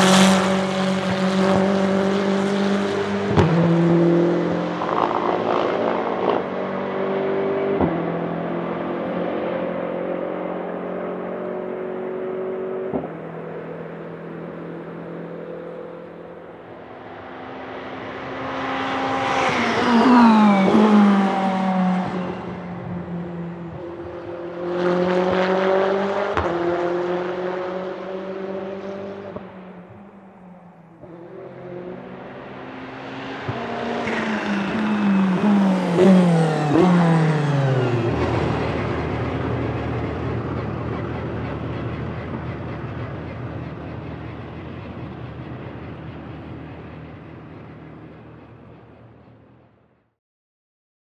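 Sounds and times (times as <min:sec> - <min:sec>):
race car engine accelerating: 0:00.0 - 0:48.6.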